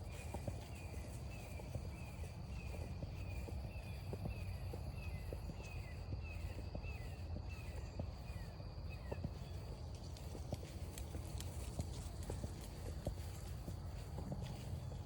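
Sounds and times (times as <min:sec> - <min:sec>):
footsteps on forest trail: 0:00.0 - 0:15.0.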